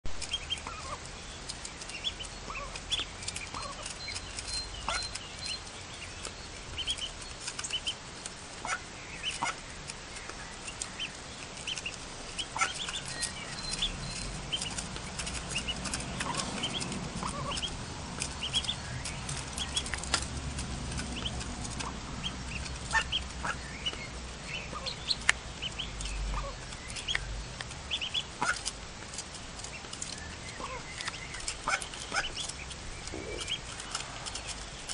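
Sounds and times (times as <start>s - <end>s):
bills pecking on a plate: 0.0s - 34.9s
ducklings peeping: 0.1s - 34.9s.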